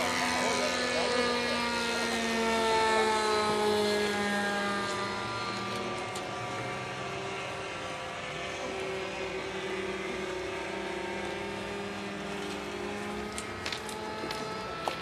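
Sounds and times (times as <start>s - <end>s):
model plane engine droning: 0.0s - 15.0s.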